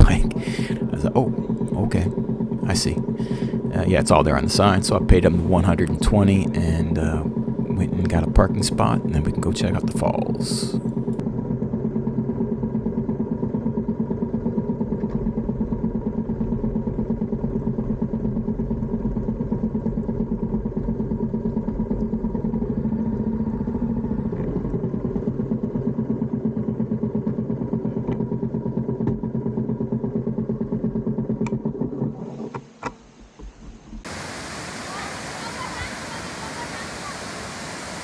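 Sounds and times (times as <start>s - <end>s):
motor scooter engine running: 0.0s - 32.3s, 34.0s - 38.0s.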